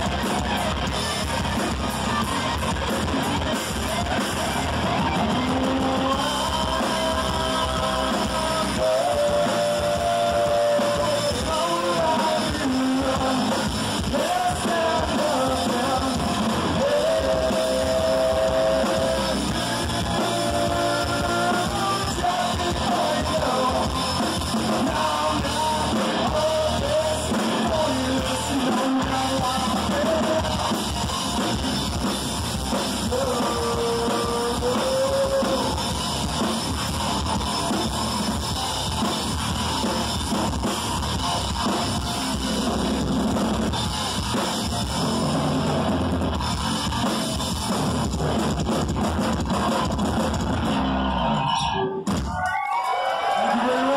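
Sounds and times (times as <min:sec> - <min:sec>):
drum kit: 0:00.0 - 0:51.3, 0:51.9 - 0:52.6
bass guitar: 0:00.0 - 0:52.6
distorted electric guitar: 0:00.0 - 0:53.9.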